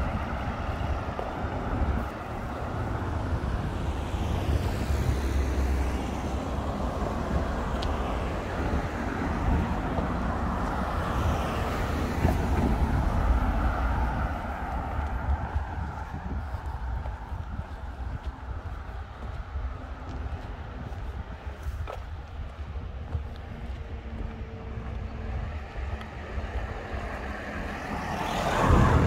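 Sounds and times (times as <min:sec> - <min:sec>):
cars passing by: 0:00.0 - 0:29.0
low traffic rumble: 0:00.0 - 0:29.0.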